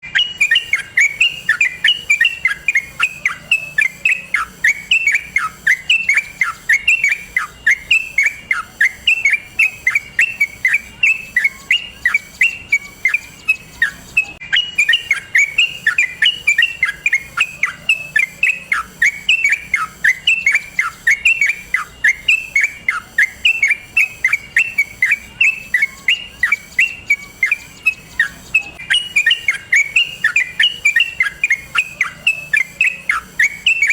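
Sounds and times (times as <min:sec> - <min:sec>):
bird chirping song: 0:00.0 - 0:33.9.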